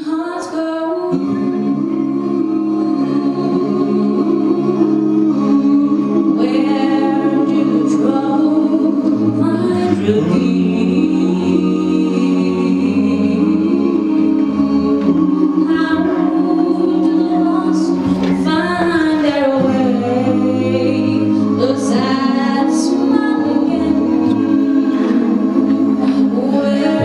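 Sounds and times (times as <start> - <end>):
a cappella vocal group singing: 0.0 - 27.0.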